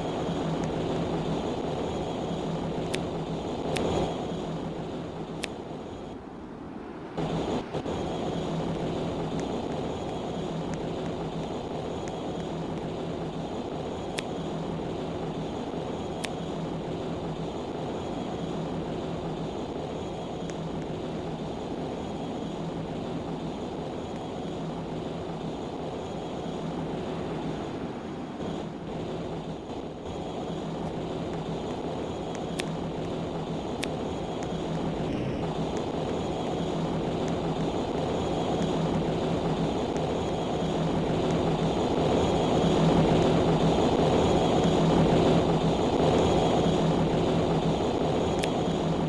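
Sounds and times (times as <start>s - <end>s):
ship engine droning: 0.0s - 49.0s.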